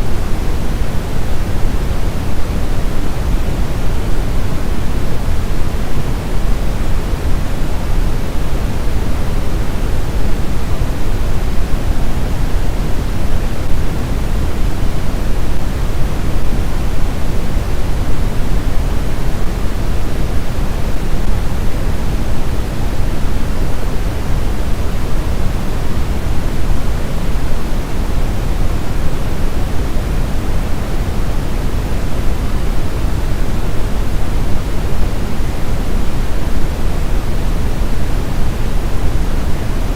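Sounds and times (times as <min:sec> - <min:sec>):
synthetic pink noise hiss: 0:00.0 - 0:39.9.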